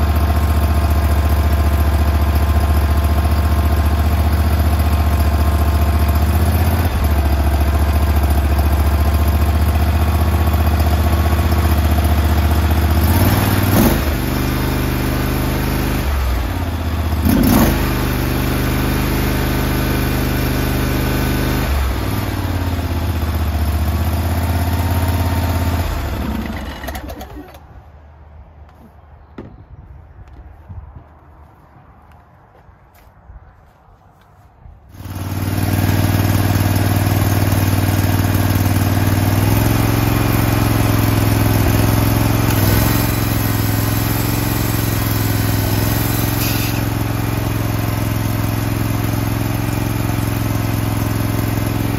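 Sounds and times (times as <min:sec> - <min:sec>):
lawn tractor engine running: 0:00.0 - 0:27.9, 0:34.9 - 0:51.9.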